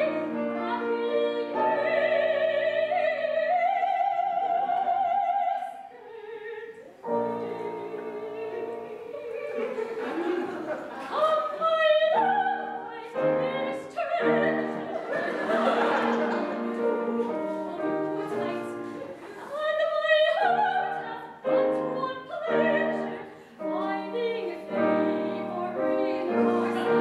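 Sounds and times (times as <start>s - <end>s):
operatic singing: 0.0s - 27.0s.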